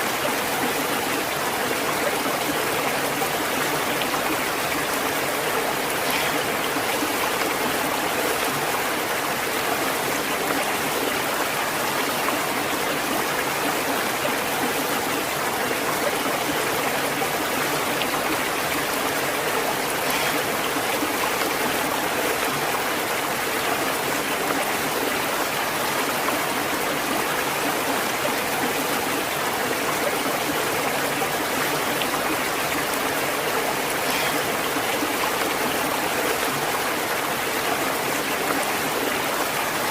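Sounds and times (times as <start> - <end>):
stream of flowing water: 0.0 - 39.9.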